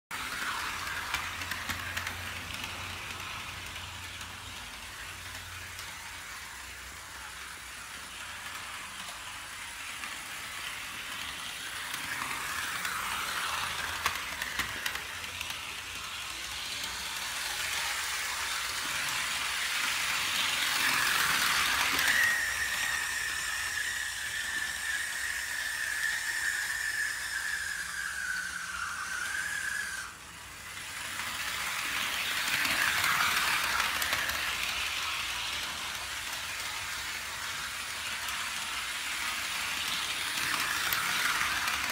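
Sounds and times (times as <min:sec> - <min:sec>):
model train motor whirring: 0:00.1 - 0:41.9.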